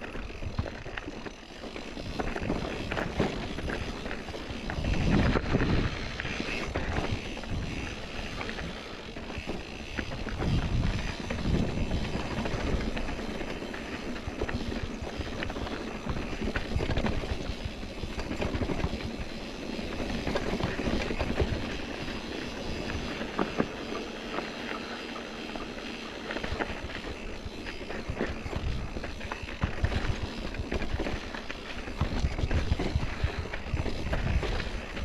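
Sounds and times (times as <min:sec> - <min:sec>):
bike rattling: 0:00.0 - 0:35.0
bike tyres crunching on dirt: 0:00.0 - 0:35.0.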